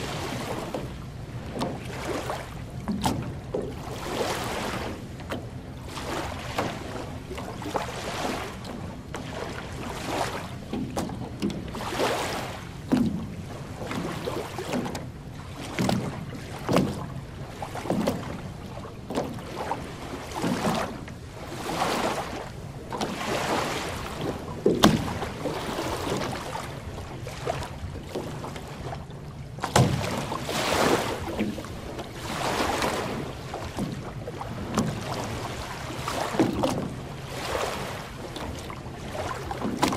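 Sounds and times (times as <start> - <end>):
water splashes: 0.0 - 39.9
waves lapping on shore: 0.0 - 39.9.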